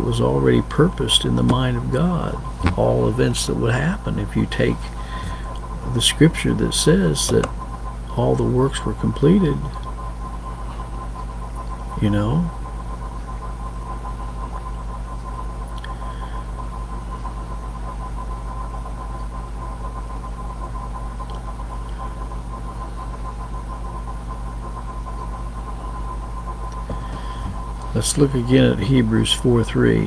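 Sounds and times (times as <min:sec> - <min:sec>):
low electrical hum: 0:00.0 - 0:30.0
thin steady whine: 0:00.0 - 0:30.0.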